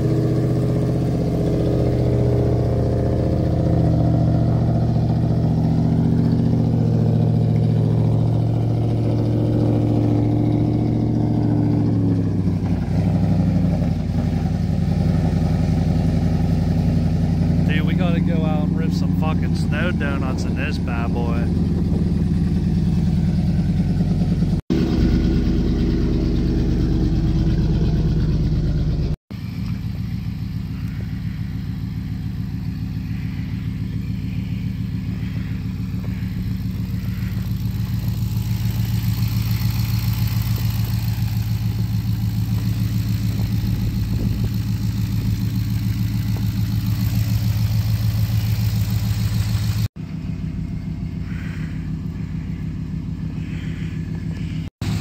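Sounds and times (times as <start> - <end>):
unmuffled engine idling: 0.0 - 55.0.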